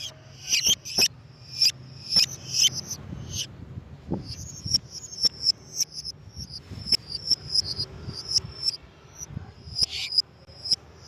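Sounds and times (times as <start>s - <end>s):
lovebird chirping: 0.0s - 3.5s, 4.2s - 11.0s.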